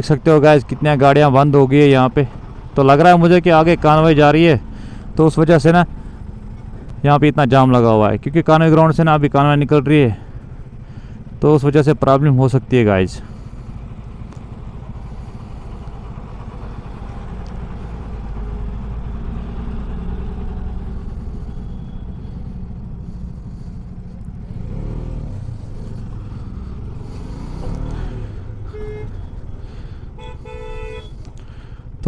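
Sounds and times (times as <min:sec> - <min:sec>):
motorcycle engine rumbling: 0:00.0 - 0:32.0.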